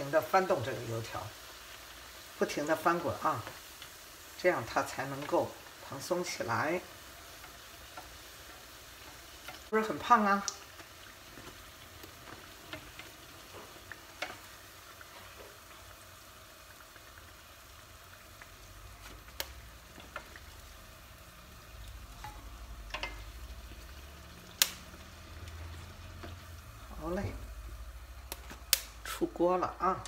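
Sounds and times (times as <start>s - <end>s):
dough deep-frying in oil: 0.0s - 30.0s.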